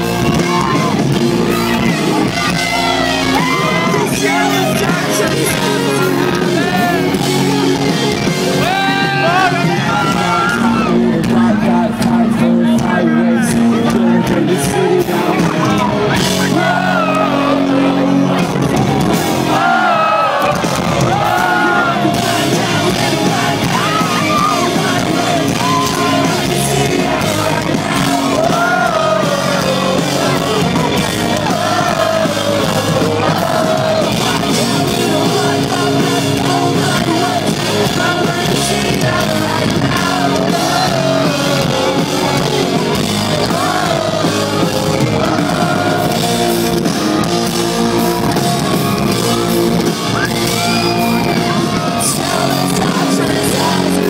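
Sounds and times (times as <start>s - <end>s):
live rock band playing: 0.0s - 54.0s
man singing lead vocal: 0.0s - 54.0s.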